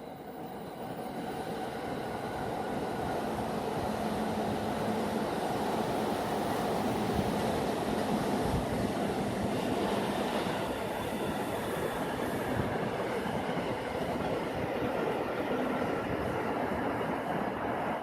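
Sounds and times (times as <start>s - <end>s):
freight train wheels rumbling on rails: 0.4s - 18.0s.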